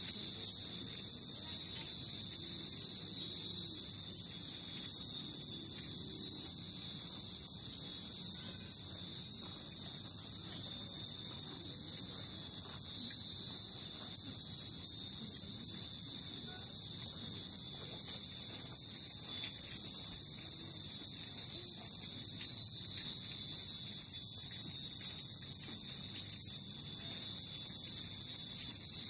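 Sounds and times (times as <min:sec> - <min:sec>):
cicadas buzzing: 0:00.0 - 0:29.0
wind chimes ringing: 0:00.0 - 0:29.0.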